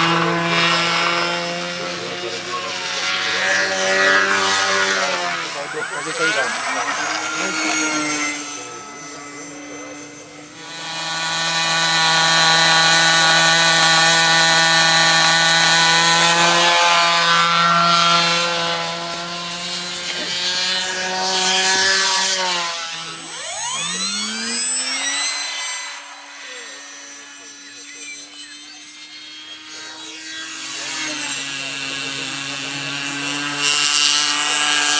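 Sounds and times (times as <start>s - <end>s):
model aircraft engine buzzing: 0.0s - 34.9s.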